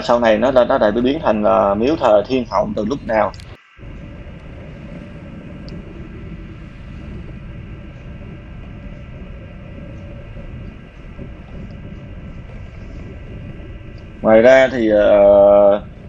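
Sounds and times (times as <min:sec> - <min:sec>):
faint steady hums: 0:00.0 - 0:16.0
moving vehicle rumble: 0:00.0 - 0:16.0
road and wind noise: 0:00.0 - 0:16.0.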